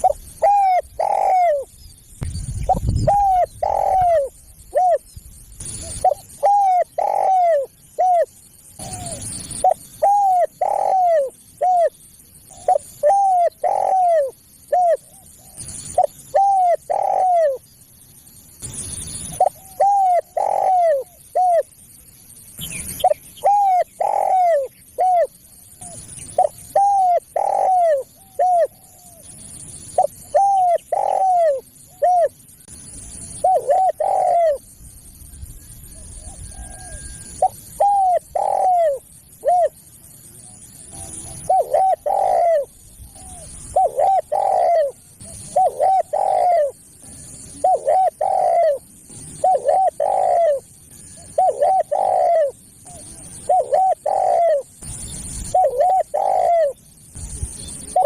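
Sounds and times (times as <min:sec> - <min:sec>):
dove cooing: 0:00.0 - 0:01.7, 0:02.6 - 0:17.7, 0:19.2 - 0:21.8, 0:23.0 - 0:32.4, 0:33.4 - 0:34.7, 0:35.6 - 0:39.8, 0:40.4 - 0:56.8, 0:57.5 - 0:58.0.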